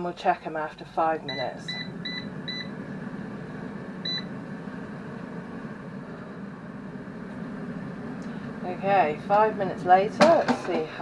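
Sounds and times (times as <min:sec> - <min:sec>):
air fryer fan hum: 0:00.0 - 0:11.0.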